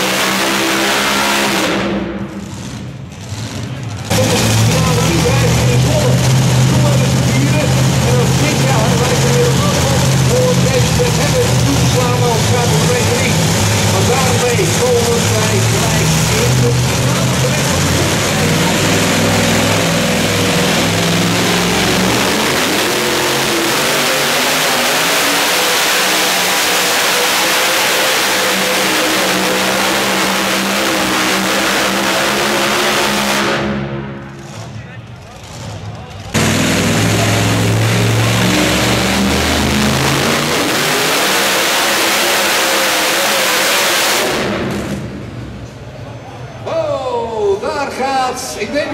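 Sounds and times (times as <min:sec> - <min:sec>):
tractor engine at full throttle: 0:00.0 - 0:46.0.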